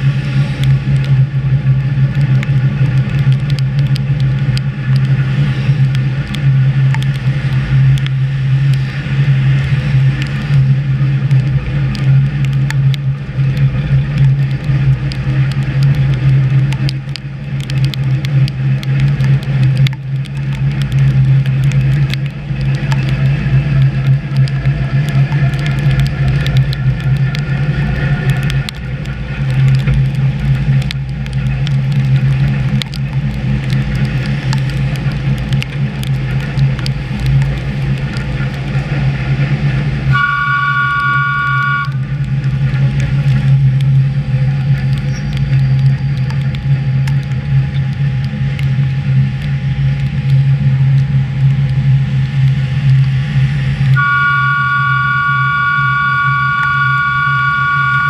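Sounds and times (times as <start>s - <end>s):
electric train hum and whine: 0.0s - 58.0s.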